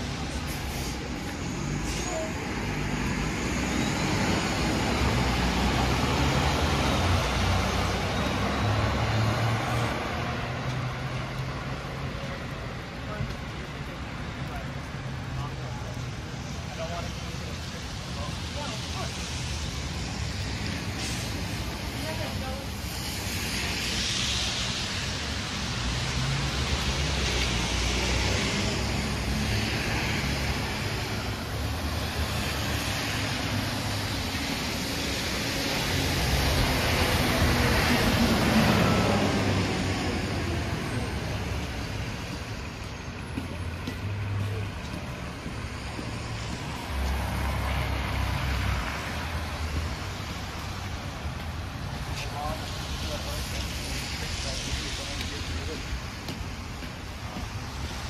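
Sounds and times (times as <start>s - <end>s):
bus passing close: 0.0s - 58.0s
tyres hissing on wet road: 0.0s - 58.0s.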